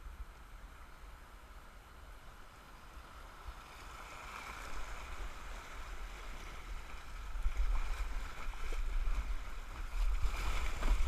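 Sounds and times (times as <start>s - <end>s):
rushing whitewater: 0.0s - 11.0s.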